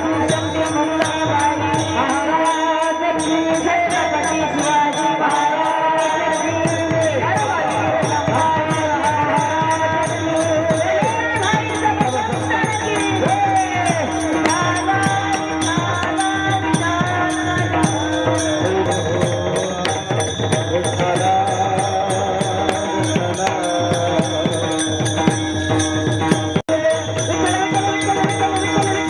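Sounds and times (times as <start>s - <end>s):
hand cymbals clashing: 0.0s - 29.0s.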